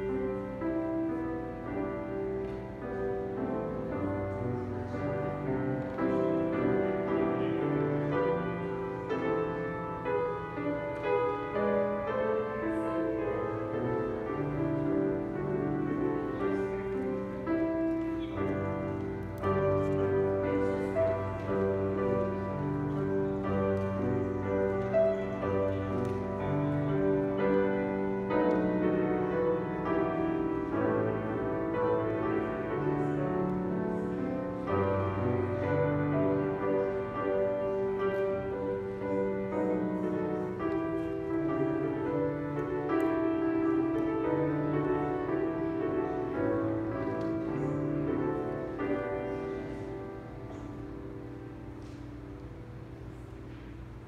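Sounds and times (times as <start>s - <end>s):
grand piano playing chords: 0.0s - 54.0s.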